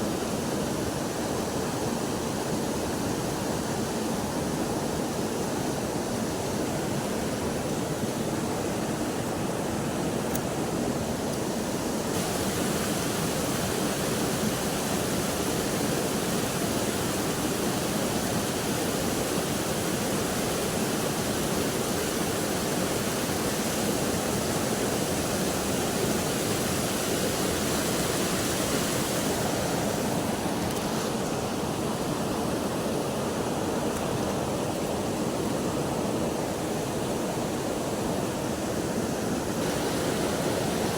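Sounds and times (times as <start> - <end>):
river water rushing: 0.1 - 40.9.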